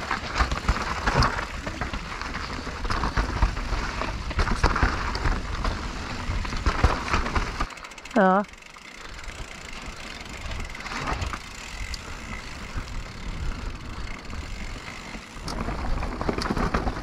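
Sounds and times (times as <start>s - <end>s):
bike knocks and rattles: 0.0s - 8.9s, 9.5s - 17.0s
wind and tyres on dirt: 0.0s - 17.0s.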